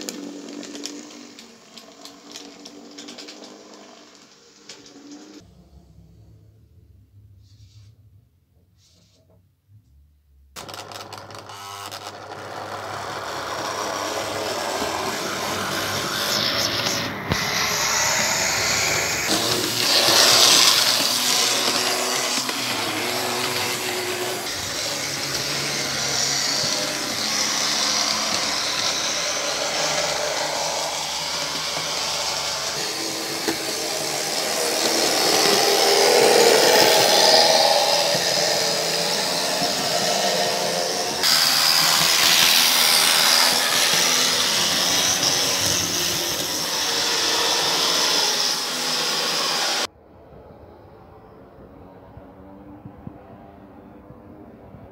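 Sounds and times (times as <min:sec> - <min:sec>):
model train motor and wheels on track: 0:00.0 - 0:05.8, 0:10.6 - 0:49.9.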